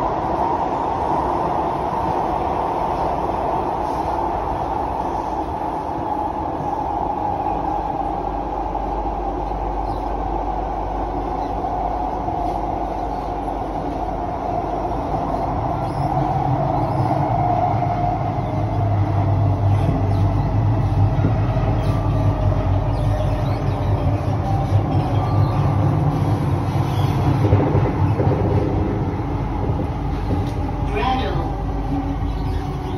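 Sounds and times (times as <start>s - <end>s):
train interior rumble and hum: 0.0s - 32.9s.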